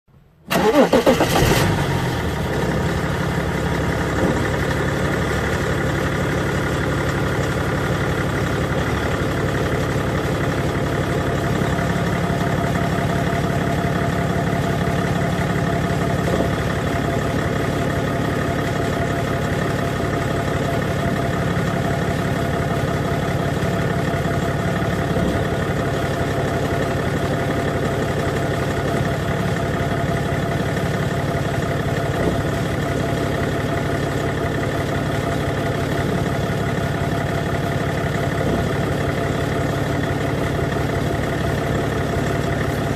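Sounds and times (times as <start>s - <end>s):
diesel engine idling: 0.5s - 42.9s
engine rattle: 0.5s - 42.9s.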